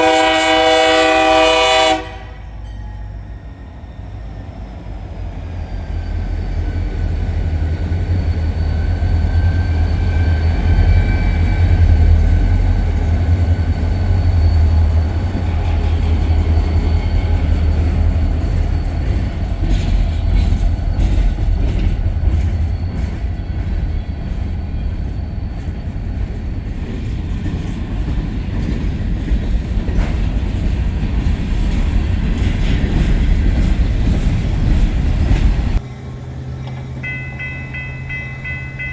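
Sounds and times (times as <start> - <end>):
diesel locomotive rumble: 0.0 - 38.9
train wheels clicking on rail joints: 2.6 - 38.9.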